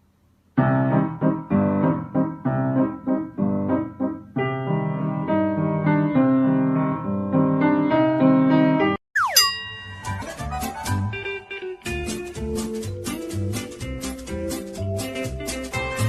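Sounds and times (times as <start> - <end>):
piano chords: 0.6 - 16.0.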